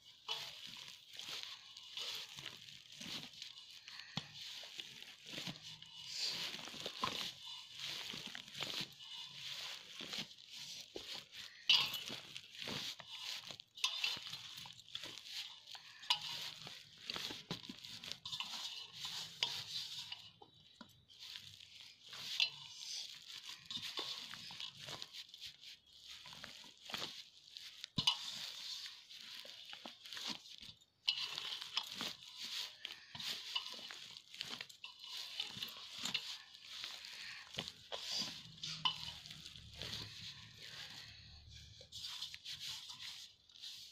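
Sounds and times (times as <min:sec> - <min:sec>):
hands kneading dough: 0:00.0 - 0:43.9.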